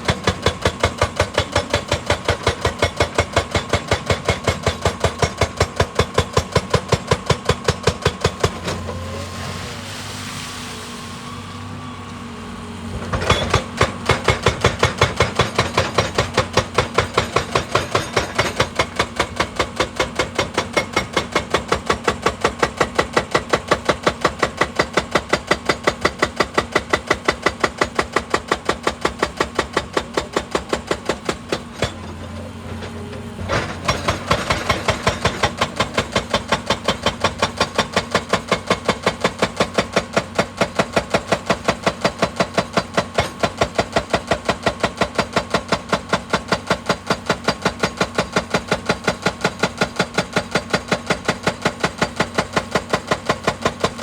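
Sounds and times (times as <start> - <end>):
hydraulic breaker hammering rock: 0.0 - 9.0, 13.0 - 54.0.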